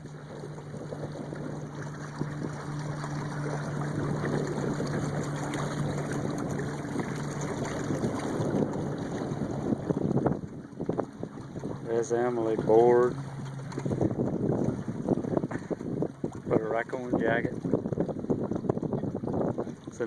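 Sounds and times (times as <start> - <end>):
outboard motor hum: 0.0 - 20.0
water splashing along boat hull: 0.0 - 20.0.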